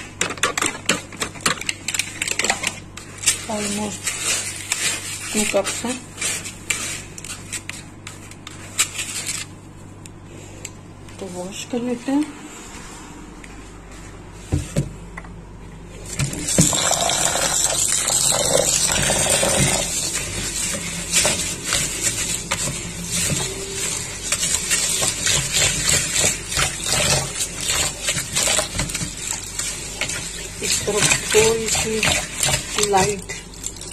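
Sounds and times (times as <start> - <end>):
hand stirring rice: 0.0 - 9.6, 16.0 - 33.9.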